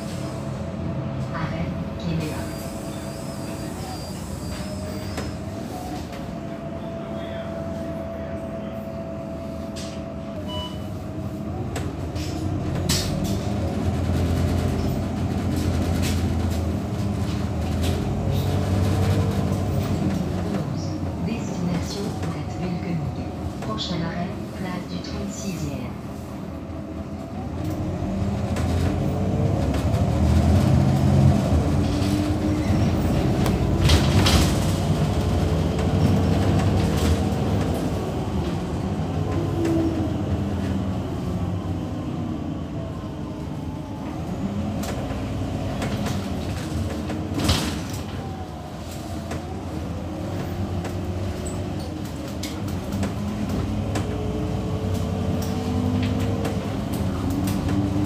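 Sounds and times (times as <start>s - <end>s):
bus engine and transmission whine: 0.0s - 58.0s.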